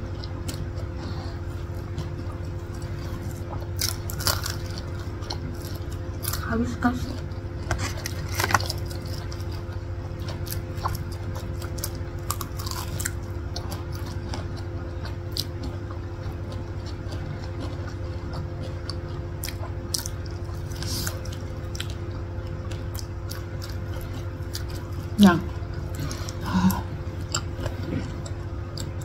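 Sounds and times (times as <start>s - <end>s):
people chewing with wet smacks: 0.0s - 29.0s
steady low hum: 0.0s - 29.0s.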